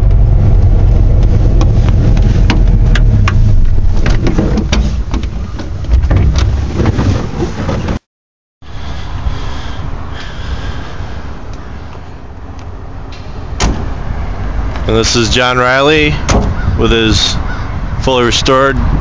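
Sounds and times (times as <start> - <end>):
small engine rumbling: 0.0 - 8.0, 8.6 - 18.0.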